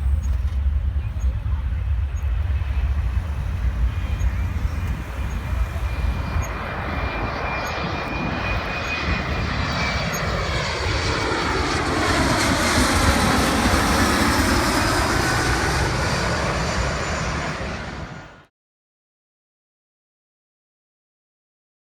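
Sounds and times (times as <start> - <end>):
airplane passing low overhead: 0.0 - 18.5.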